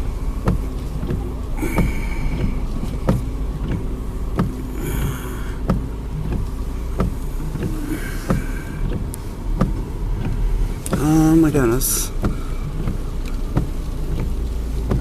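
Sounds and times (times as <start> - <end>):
storm wind rumbling around a car: 0.0 - 15.0.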